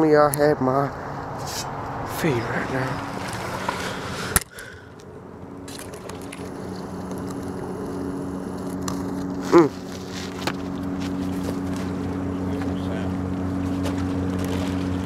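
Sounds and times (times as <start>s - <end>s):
motor humming: 1.0s - 15.0s.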